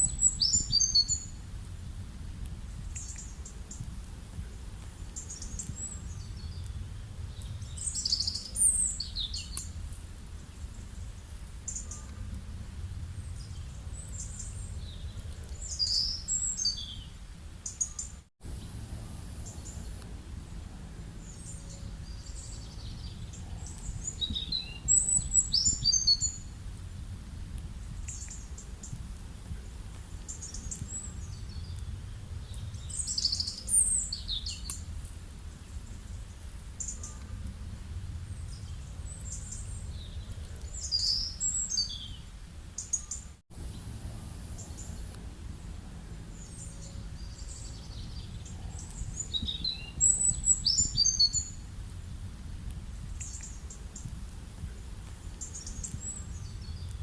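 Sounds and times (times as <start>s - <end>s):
birds chirping: 0.0s - 1.4s, 2.8s - 26.6s, 29.6s - 34.9s, 35.6s - 51.7s
low outdoor rumble: 0.0s - 57.0s.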